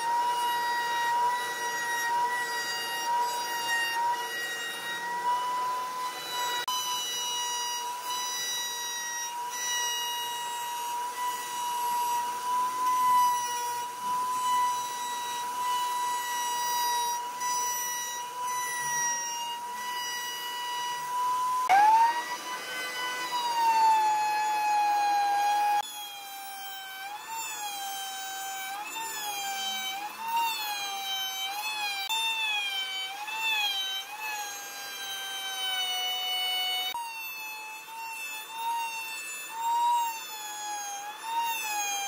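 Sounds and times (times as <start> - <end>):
router cutting wood whine: 0.0 - 42.0.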